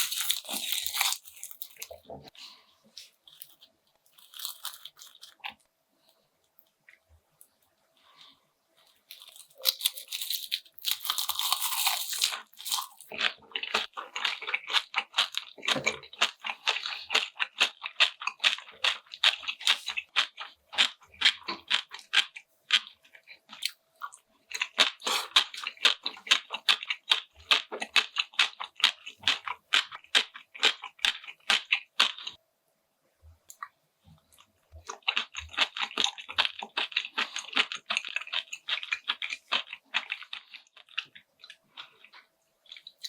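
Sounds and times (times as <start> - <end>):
person chewing crunchy food: 0.0 - 5.7, 8.8 - 32.4, 33.6 - 43.0.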